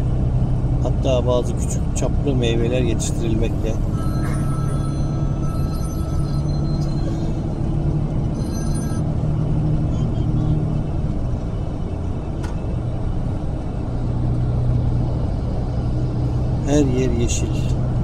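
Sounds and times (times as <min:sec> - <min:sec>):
bus engine drone: 0:00.0 - 0:18.0
road rumble: 0:00.0 - 0:18.0.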